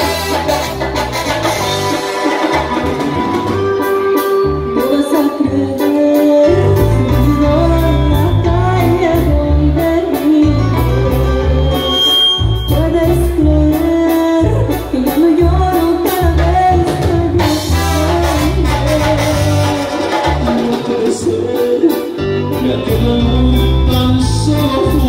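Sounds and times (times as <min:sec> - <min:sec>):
live latin band playing: 0:00.0 - 0:25.0.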